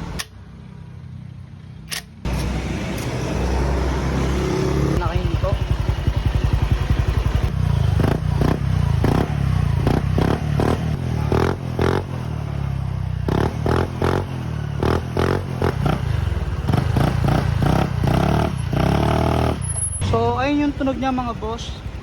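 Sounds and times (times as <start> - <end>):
scooter engine revving: 2.2 - 20.1.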